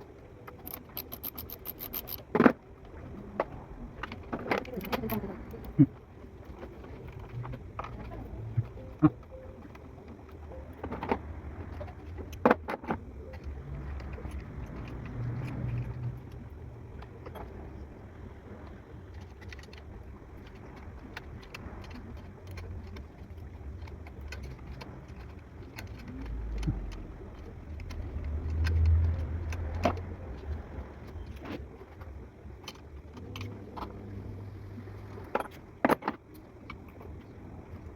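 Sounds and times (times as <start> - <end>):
low uneven rumble: 2.6 - 35.9.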